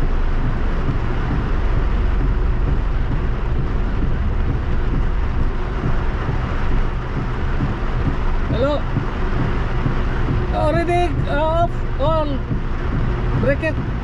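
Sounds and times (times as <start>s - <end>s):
car engine rumble: 0.0s - 14.0s
heavy rain on a car: 0.0s - 14.0s
tyres on wet road: 0.0s - 14.0s.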